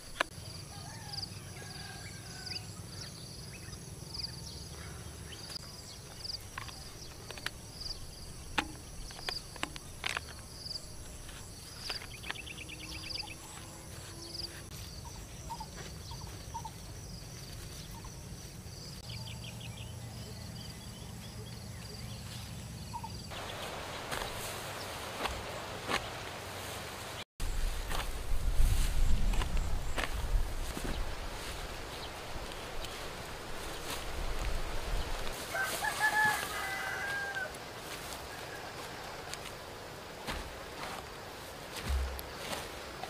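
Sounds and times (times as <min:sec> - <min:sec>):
insect chirp: 0:00.0 - 0:43.0
insects droning: 0:00.0 - 0:43.0.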